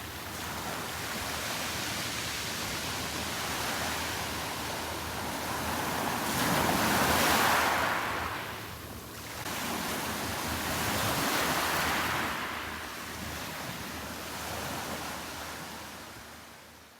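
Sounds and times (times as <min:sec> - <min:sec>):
waves washing onto beach: 0:00.3 - 0:16.1.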